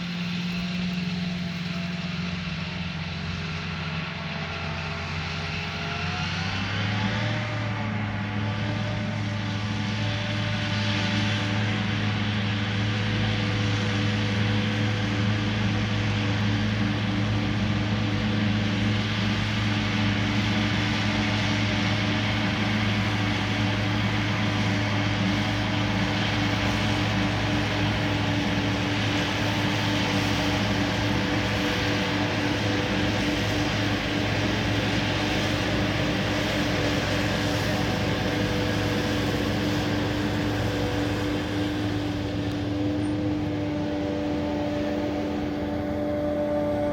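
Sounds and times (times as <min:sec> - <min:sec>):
large diesel engine droning: 0:00.0 - 0:46.9.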